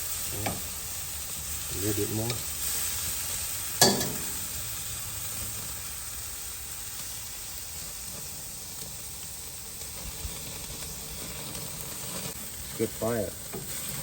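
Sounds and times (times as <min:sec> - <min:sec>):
steaks sizzling on a grill: 0:00.0 - 0:14.0.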